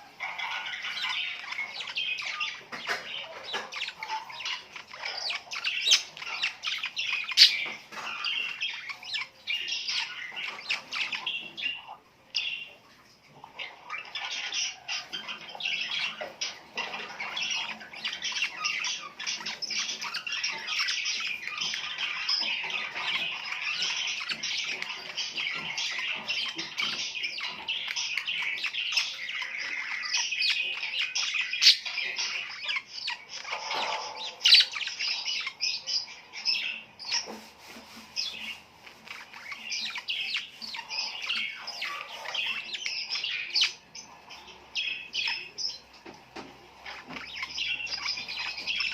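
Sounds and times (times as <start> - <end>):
flock of birds chirping: 0.0 - 48.9.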